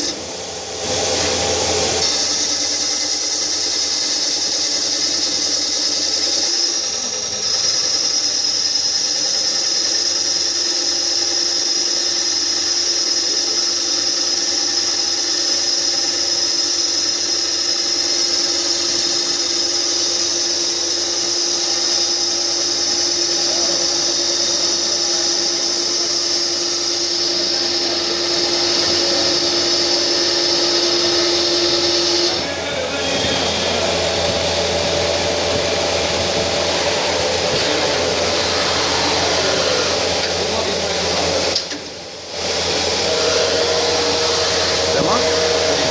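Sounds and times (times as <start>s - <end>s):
machining whine: 0.0s - 45.9s.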